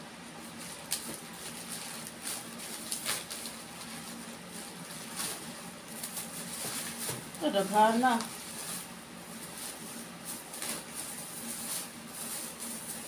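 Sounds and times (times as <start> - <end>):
plastic rustling: 0.4 - 13.0.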